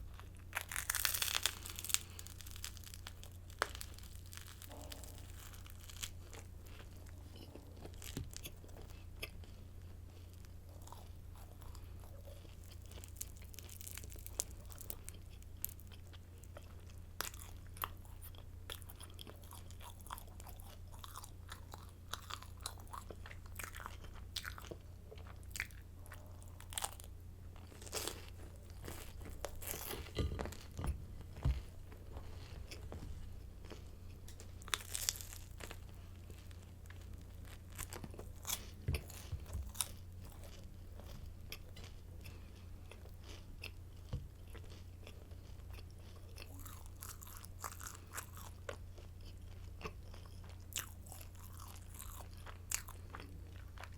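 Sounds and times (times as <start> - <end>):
crunching of crisp bread sticks: 0.0 - 53.9
steady low hum: 0.0 - 53.9.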